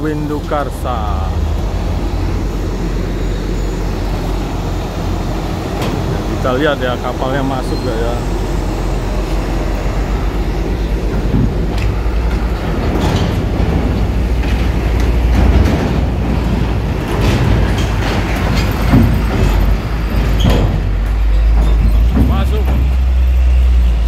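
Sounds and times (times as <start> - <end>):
diesel truck engine rumble: 0.0 - 24.0
wheels clanking over metal plates: 0.0 - 24.0.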